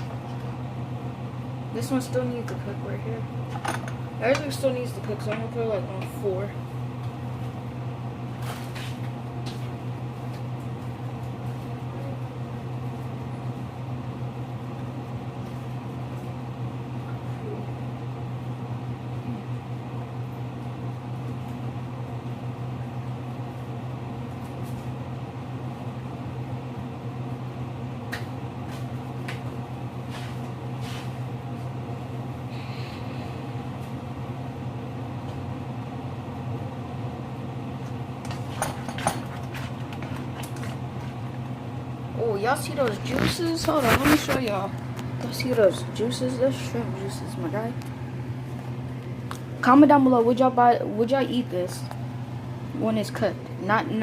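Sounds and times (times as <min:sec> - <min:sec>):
fan motor humming: 0:00.0 - 0:54.0.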